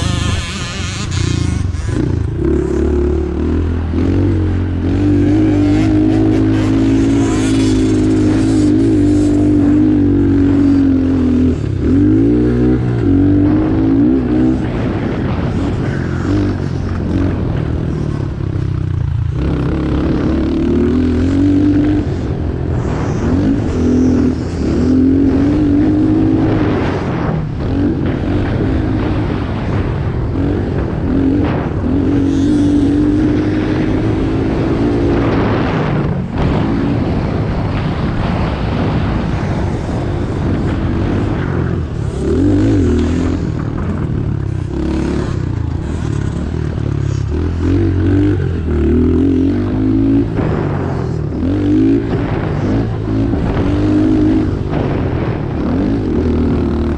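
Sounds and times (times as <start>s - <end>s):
motorcycle engine revving: 0.0s - 56.9s
wind noise: 0.0s - 56.9s.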